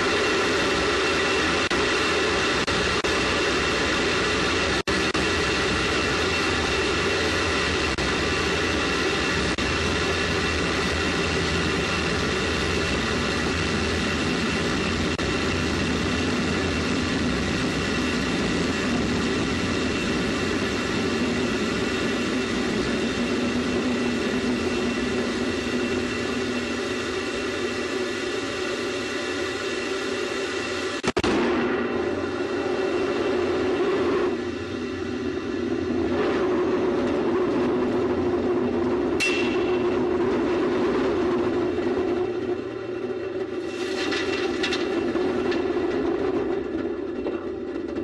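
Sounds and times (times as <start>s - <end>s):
rocket motor roaring: 0.0s - 48.0s
steady whining tones: 0.0s - 48.0s.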